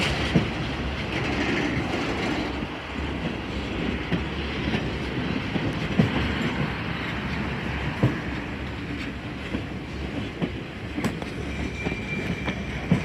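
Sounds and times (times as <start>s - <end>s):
steel wheels rumbling on rail: 0.0s - 13.0s.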